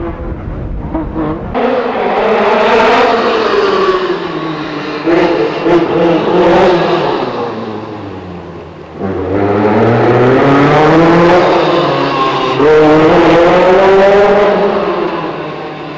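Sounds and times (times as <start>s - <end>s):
engine accelerating: 0.0s - 15.9s
rally car engine at full throttle: 0.0s - 15.9s.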